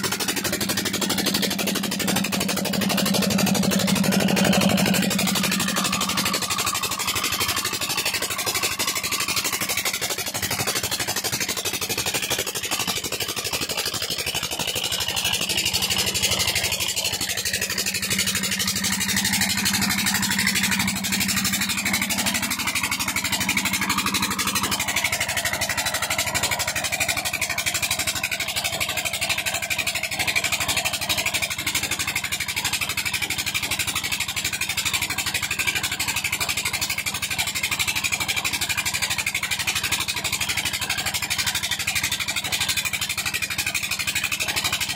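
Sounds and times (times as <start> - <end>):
diesel engine running: 0.0 - 44.9
water gushing into a tank: 0.0 - 44.9.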